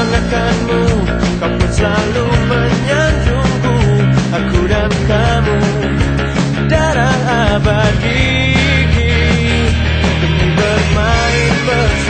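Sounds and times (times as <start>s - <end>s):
pop-rock band music: 0.0s - 12.0s.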